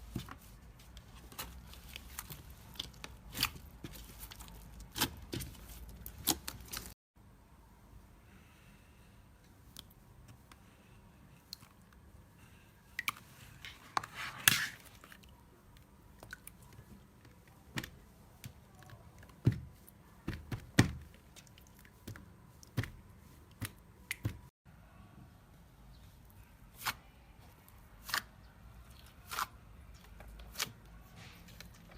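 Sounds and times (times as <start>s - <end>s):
wet slime squelch: 0.0s - 6.9s, 9.6s - 24.5s, 25.9s - 31.9s.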